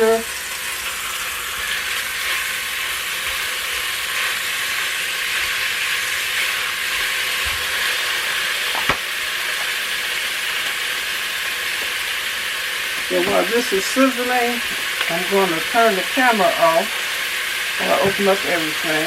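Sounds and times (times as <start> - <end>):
ground beef sizzling: 0.0 - 19.0.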